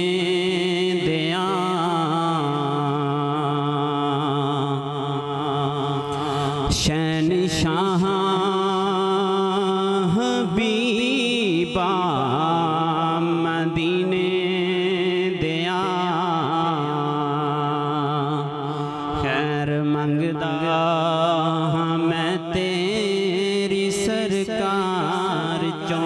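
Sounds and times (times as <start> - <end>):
man singing into microphone: 0.0 - 26.0.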